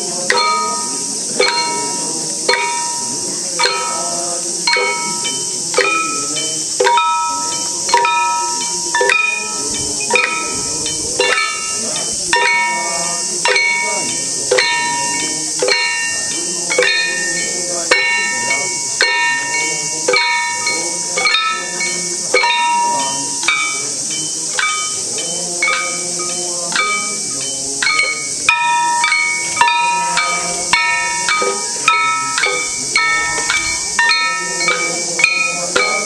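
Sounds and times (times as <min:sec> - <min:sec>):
cicadas hissing: 0:00.0 - 0:36.0
hand-held gongs struck: 0:04.7 - 0:36.0.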